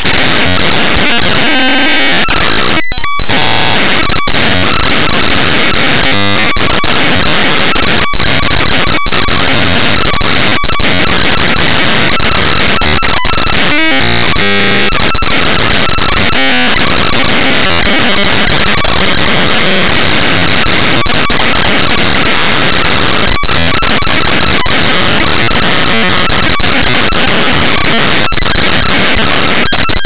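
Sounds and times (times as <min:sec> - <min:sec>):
harsh digital noise: 0:00.0 - 0:30.0.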